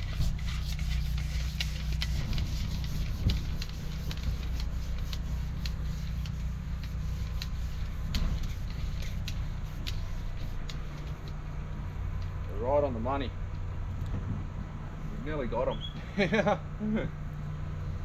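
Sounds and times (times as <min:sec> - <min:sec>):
drain jetter engine hum: 0:00.0 - 0:15.2.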